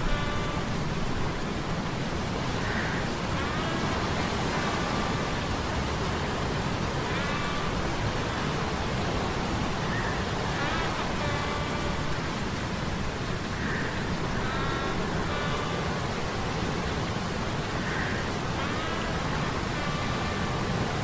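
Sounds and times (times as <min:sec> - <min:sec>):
rain and surf rushing: 0:00.0 - 0:21.0.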